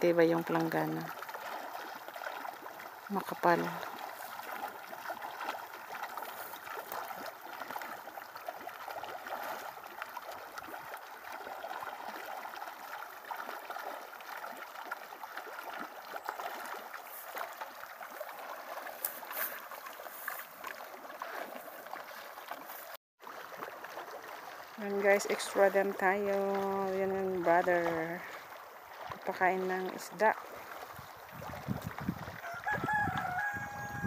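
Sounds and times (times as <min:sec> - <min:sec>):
pond water splashing and gurgling: 0:00.0 - 0:34.0.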